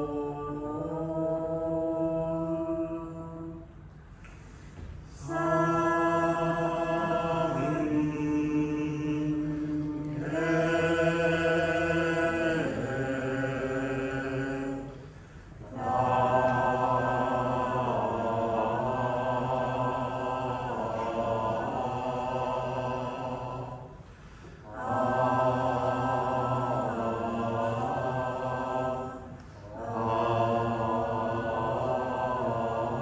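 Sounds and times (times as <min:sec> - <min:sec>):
group chanting: 0:00.0 - 0:03.6, 0:05.1 - 0:24.0, 0:24.6 - 0:33.0.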